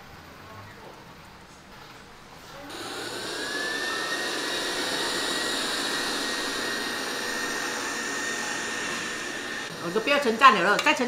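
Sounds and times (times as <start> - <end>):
suction fan whine: 0.0 - 11.0.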